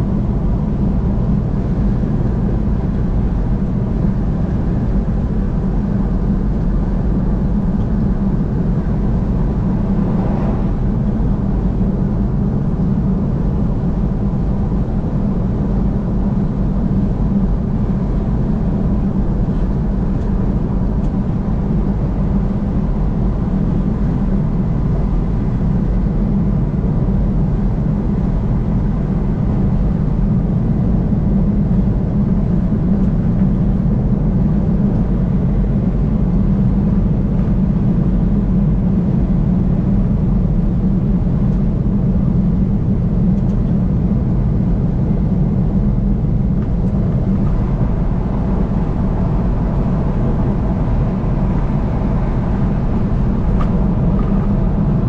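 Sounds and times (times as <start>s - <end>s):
car driving on highway: 0.0s - 55.0s.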